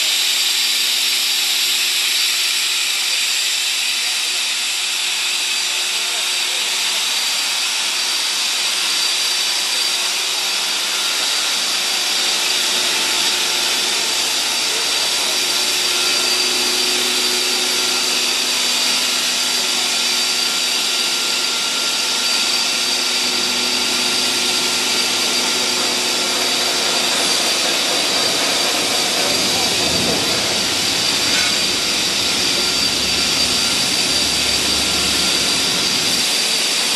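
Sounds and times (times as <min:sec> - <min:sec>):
high machine whine: 0:00.0 - 0:36.9
motors and pumps humming: 0:00.0 - 0:36.9.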